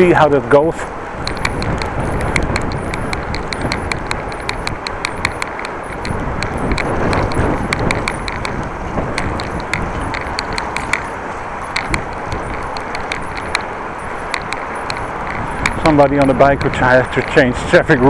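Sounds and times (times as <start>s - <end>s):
tyre and road noise: 0.0s - 18.0s
wind buffeting microphone: 0.0s - 18.0s.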